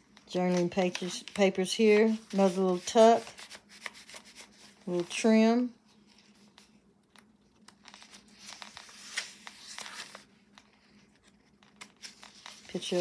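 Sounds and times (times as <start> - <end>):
paper pages rustling and crinkling: 0.0 - 13.0.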